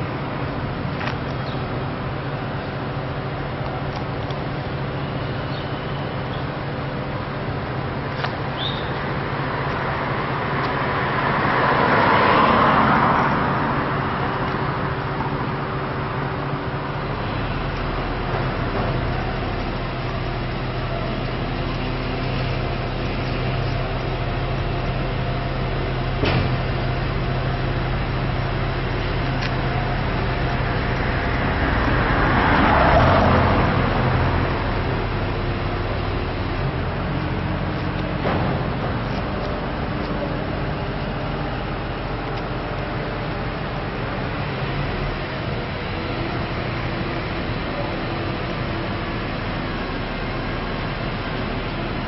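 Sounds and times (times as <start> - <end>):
low engine hum: 0.0 - 52.0
vehicles passing: 0.0 - 52.0.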